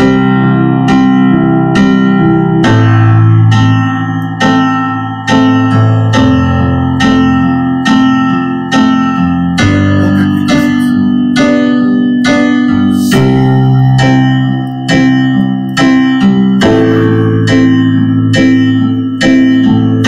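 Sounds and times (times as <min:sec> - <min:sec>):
slow piano ballad chords: 0:00.0 - 0:20.0.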